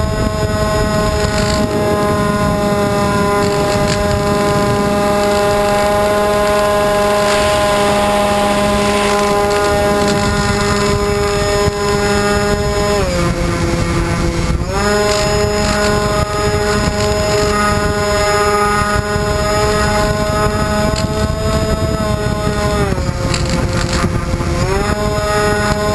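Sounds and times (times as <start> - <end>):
rushing air: 0.0 - 25.4
electric motors whining drone: 0.0 - 25.9.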